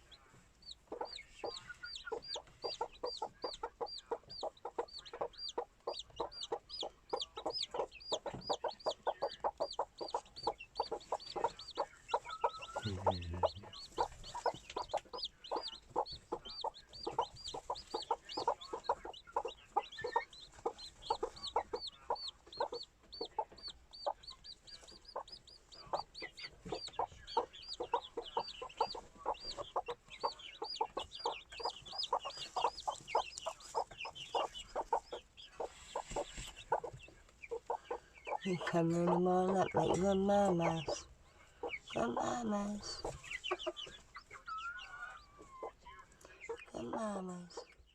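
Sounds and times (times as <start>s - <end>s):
chicks peeping: 0.0s - 47.9s
hens clucking: 0.0s - 47.9s.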